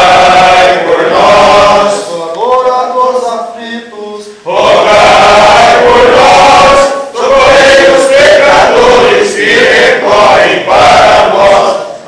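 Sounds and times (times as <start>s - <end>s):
men's voices singing a hymn: 0.0s - 12.0s.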